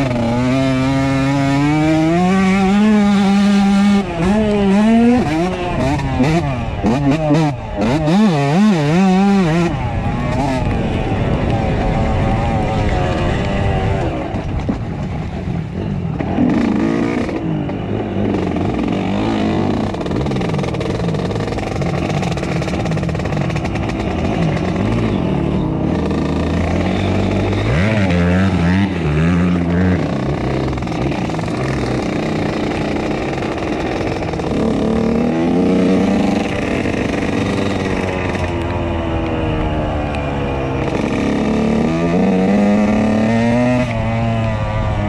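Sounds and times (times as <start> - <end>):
two-stroke motorcycle engine revving: 0.0 - 45.0.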